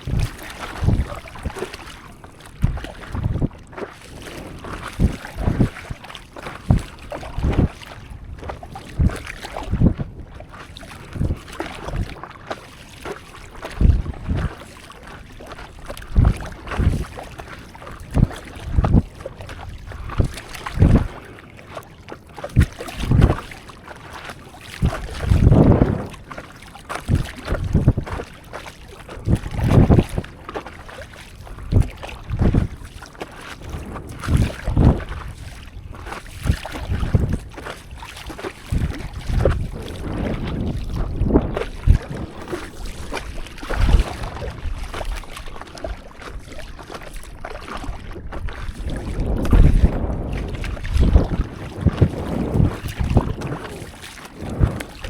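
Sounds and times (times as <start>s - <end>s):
wind buffeting microphone: 0.0s - 12.2s, 13.5s - 21.3s, 22.4s - 23.6s, 24.7s - 55.0s
water sloshing and splashing: 0.0s - 55.0s.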